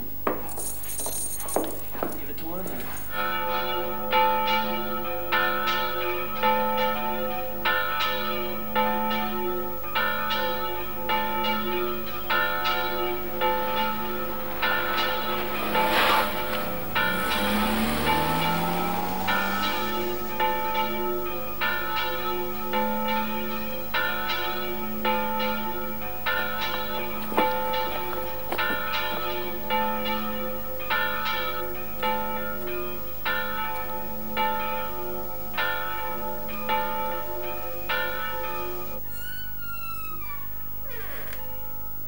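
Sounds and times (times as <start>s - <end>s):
church bells ringing: 0.0s - 42.0s.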